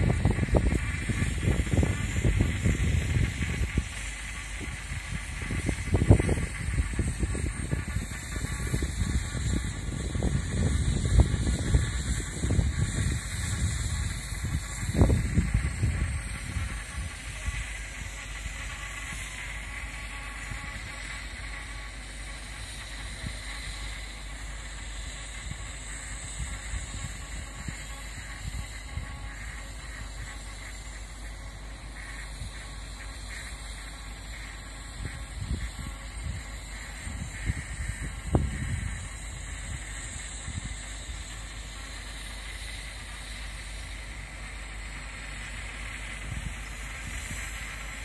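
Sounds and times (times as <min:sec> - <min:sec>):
diesel locomotives idling: 0:00.0 - 0:48.0.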